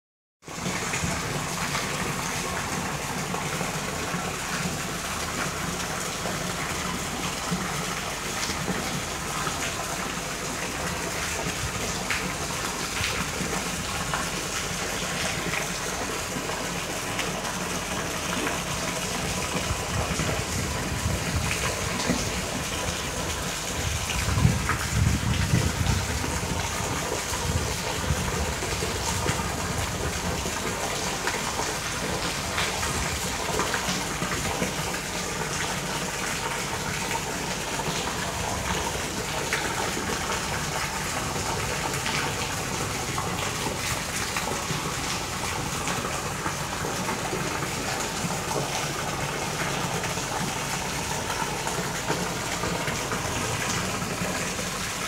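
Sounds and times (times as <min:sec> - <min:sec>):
rushing water: 0:00.4 - 0:55.0.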